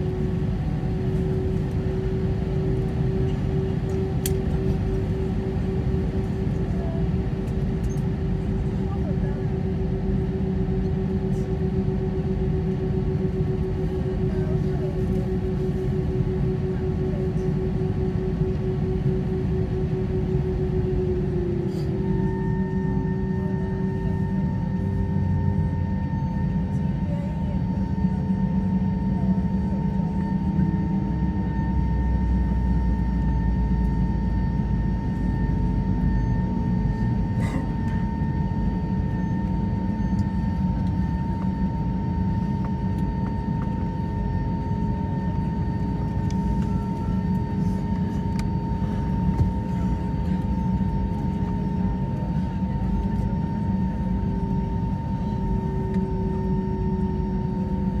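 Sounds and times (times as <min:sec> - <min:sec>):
aircraft cabin rumble: 0:00.0 - 0:58.0
jet engines whining hum: 0:00.0 - 0:58.0.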